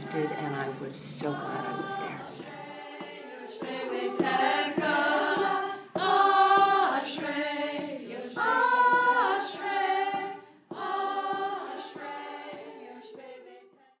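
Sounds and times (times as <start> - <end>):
choir singing unaccompanied: 0.0 - 14.0.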